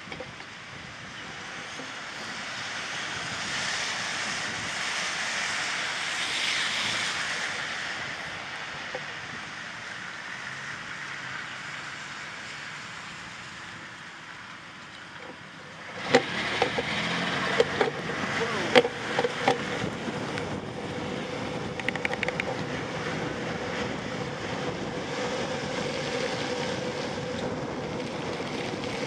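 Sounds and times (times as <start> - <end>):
tyres hissing on wet road: 0.0 - 29.0.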